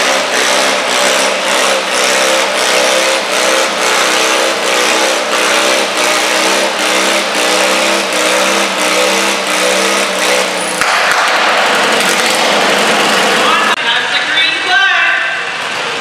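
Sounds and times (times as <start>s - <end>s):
tractor engine surging under load: 0.0s - 13.8s.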